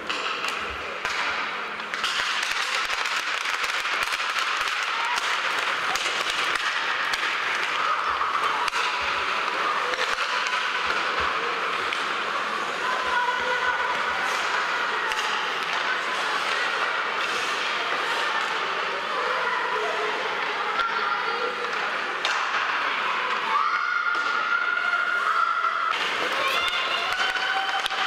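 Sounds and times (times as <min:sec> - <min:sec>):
hockey sticks clattering: 0:00.0 - 0:24.5, 0:25.9 - 0:28.0
skates scraping on ice: 0:00.1 - 0:20.7, 0:25.2 - 0:28.0.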